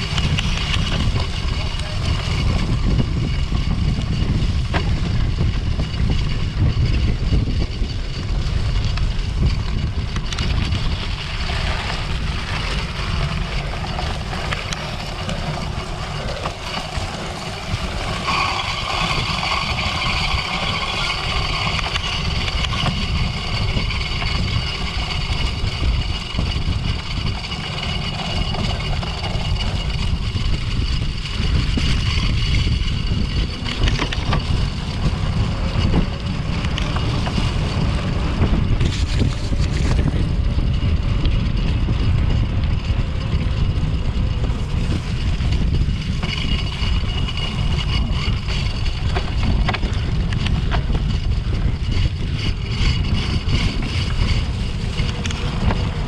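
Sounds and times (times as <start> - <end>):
bike rumble and rattle: 0.0 - 56.0
wind rumbling on microphone: 0.0 - 56.0.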